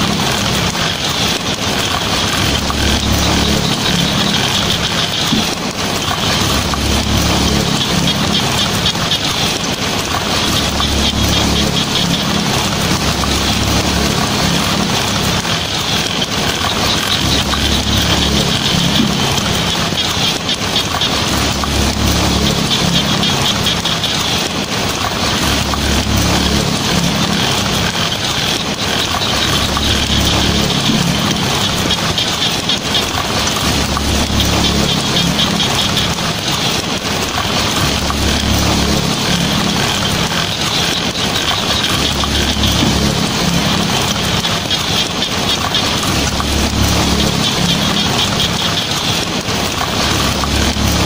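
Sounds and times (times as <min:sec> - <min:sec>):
heavy rain on a tin roof: 0:00.0 - 0:51.0.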